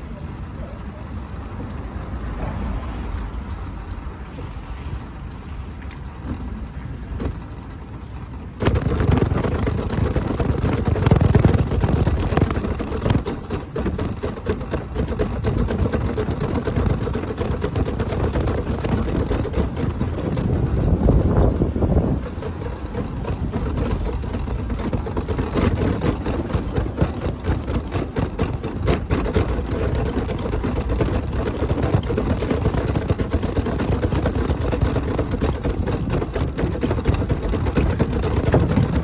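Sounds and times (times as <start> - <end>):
mobility scooter rumbling: 0.0 - 39.0.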